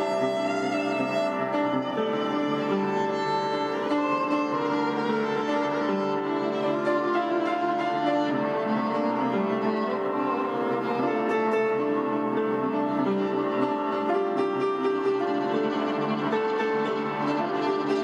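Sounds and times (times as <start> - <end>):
upright piano playing: 0.0 - 18.0
violin bowed: 0.0 - 18.0.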